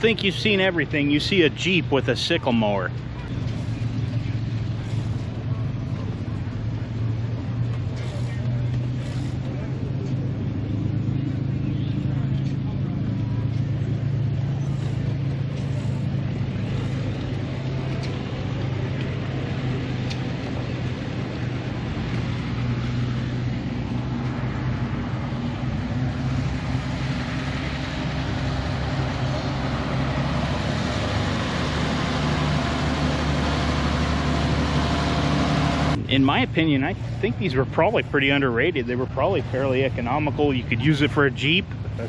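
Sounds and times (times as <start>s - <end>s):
engine idling hum: 0.0s - 42.0s
outdoor background noise: 0.0s - 42.0s.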